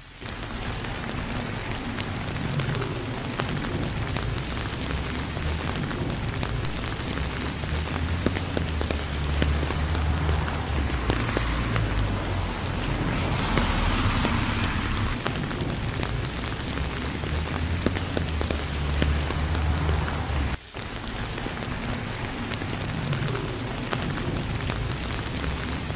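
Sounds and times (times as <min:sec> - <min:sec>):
rain falling on road: 0:00.0 - 0:25.9.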